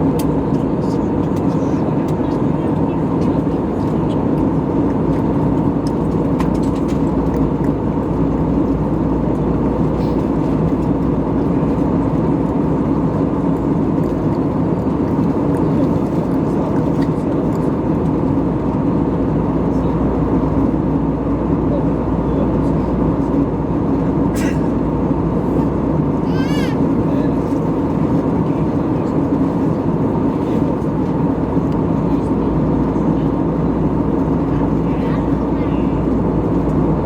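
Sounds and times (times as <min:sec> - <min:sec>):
airplane engine drone: 0:00.0 - 0:37.0.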